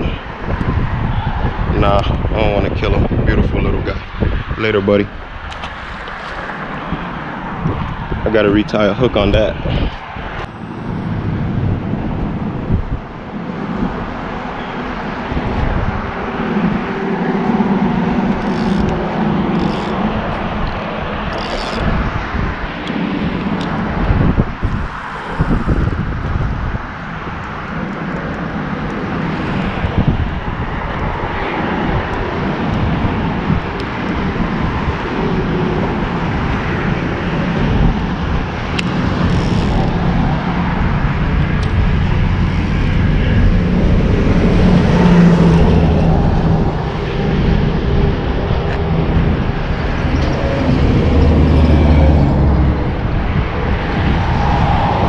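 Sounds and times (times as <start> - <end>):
road traffic rushing: 0.0 - 55.0
deep engine drone: 9.6 - 55.0.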